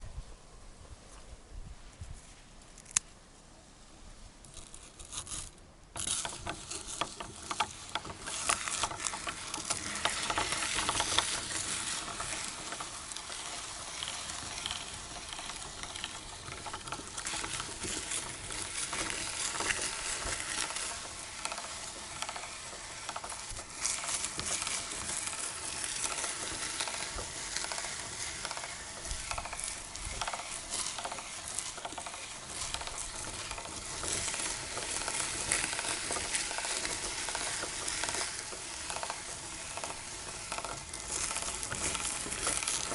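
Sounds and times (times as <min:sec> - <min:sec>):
meat grinder crunching waffles: 0:04.5 - 0:42.9.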